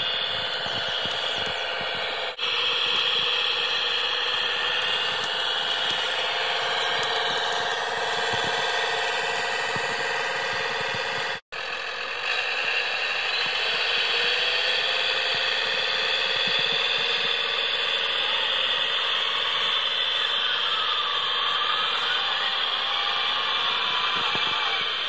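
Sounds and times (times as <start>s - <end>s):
toy tractor motor whining: 0.0s - 25.0s.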